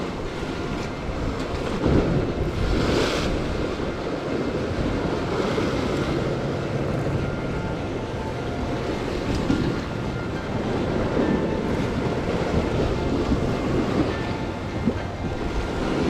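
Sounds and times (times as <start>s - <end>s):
sea surf washing against rocks: 0.0s - 16.0s
wind buffeting microphone: 0.0s - 16.0s.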